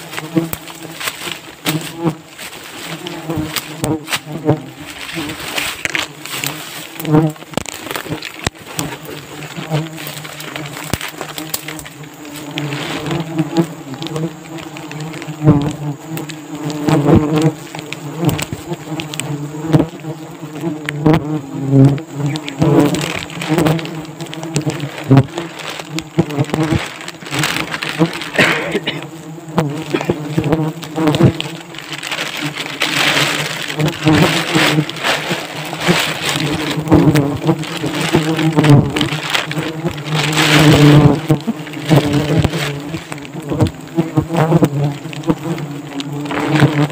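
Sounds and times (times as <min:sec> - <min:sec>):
bees buzzing: 0:00.0 - 0:46.9
plastic sacks rustling: 0:00.0 - 0:46.9.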